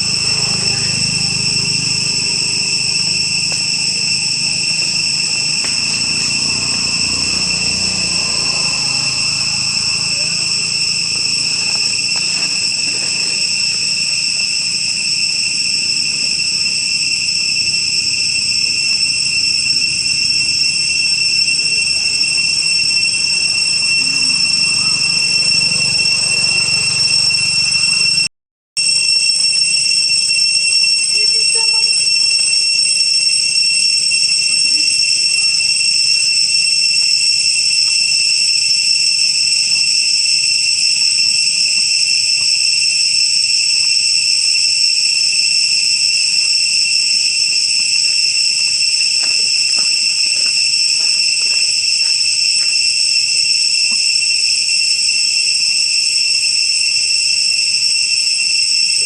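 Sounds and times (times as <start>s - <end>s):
high-pitched whistle-like tone: 0.0s - 59.0s.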